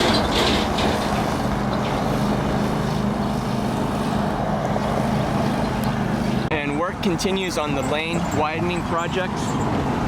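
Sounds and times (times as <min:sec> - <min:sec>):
constant low hum: 0:00.0 - 0:10.0
road vehicle running: 0:00.0 - 0:10.0.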